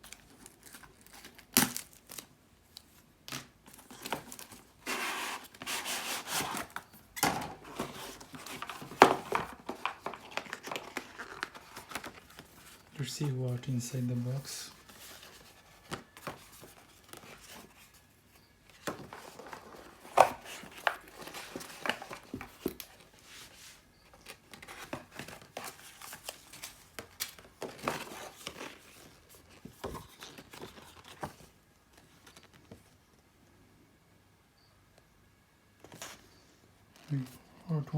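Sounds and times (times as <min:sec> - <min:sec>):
packaging crinkling and rustling: 0:00.0 - 0:33.2.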